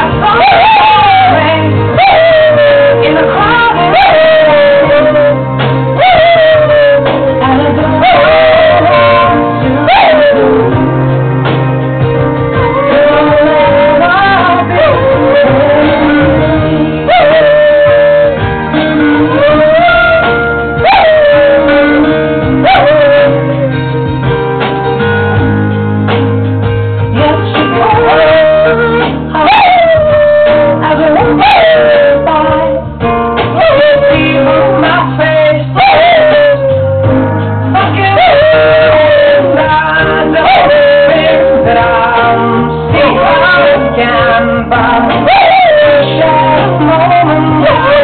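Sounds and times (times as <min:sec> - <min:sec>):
pop song with singing voice: 0:00.0 - 0:48.0.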